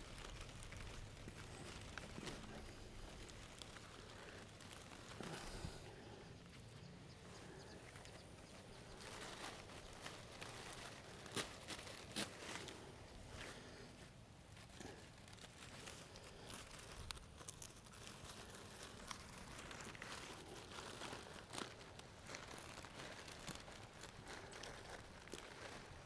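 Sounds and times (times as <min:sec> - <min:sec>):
faint rustling: 0:00.0 - 0:26.0.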